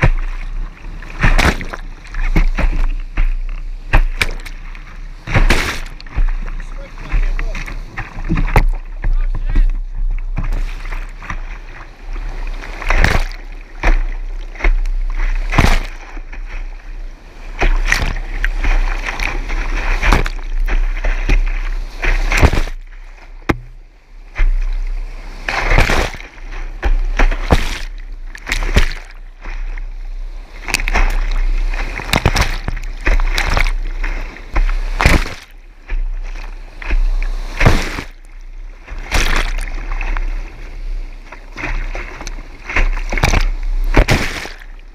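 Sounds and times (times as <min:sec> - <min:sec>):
water splashing over camera: 0:00.0 - 0:44.9.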